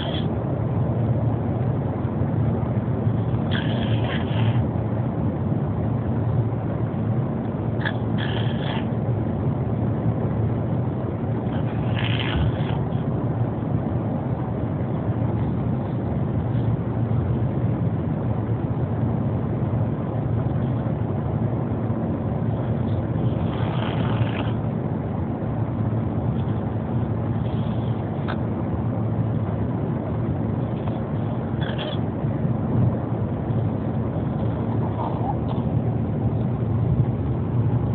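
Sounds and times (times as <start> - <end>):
car interior rumble: 0.0 - 37.9.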